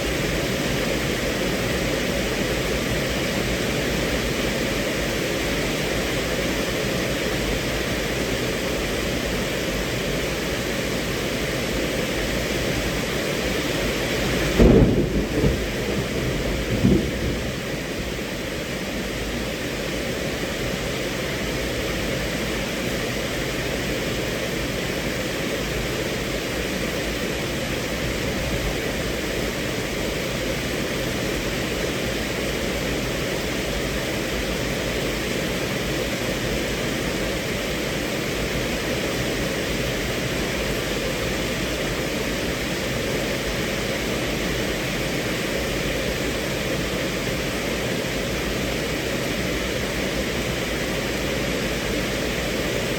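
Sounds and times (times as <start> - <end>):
rain falling on a car: 0.0 - 52.9.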